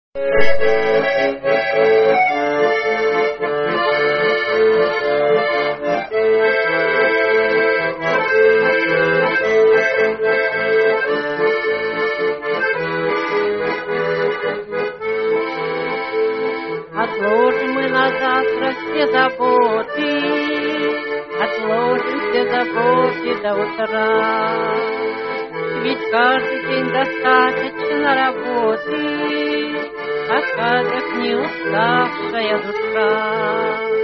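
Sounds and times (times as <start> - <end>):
button accordion melody: 0.2 - 34.0.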